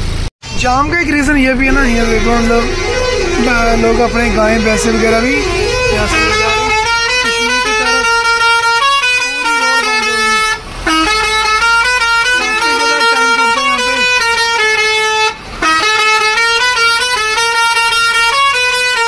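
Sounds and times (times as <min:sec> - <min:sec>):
truck musical horn tune: 0:01.3 - 0:19.0.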